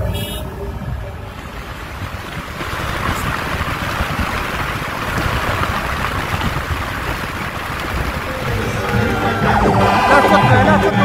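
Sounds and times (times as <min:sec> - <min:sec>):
highway road noise: 0:00.0 - 0:11.0
rushing wind: 0:00.0 - 0:11.0.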